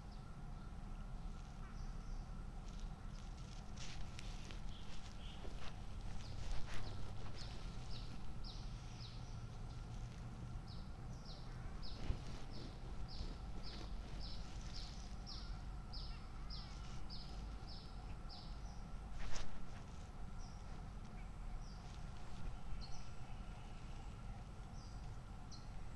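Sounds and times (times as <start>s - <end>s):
low outdoor rumble: 0.0s - 25.9s.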